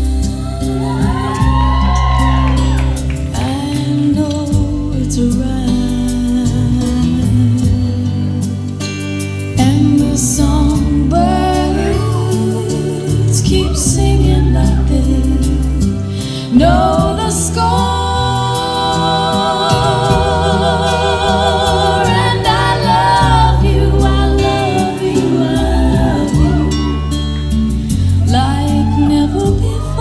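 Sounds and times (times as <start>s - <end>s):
bass and accompaniment: 0.0s - 30.0s
woman singing with vibrato: 0.0s - 30.0s.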